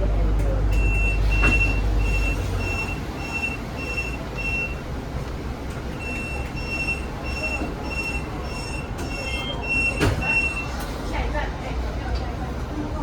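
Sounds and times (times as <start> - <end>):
bus low rumble: 0.0 - 13.0.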